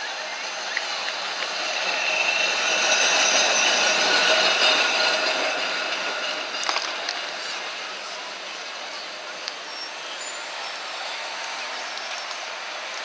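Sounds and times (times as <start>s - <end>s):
tram passing on rails: 0.0s - 13.0s.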